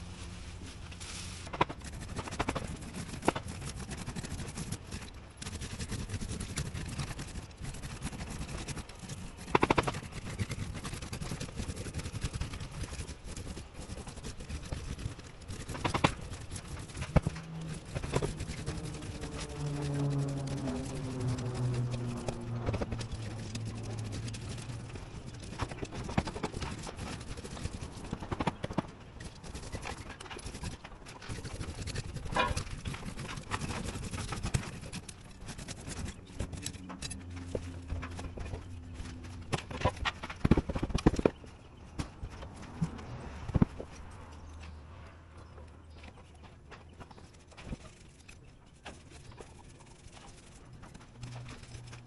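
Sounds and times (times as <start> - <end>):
knocks and scrapes on roof: 1.3 - 44.8, 46.0 - 52.0.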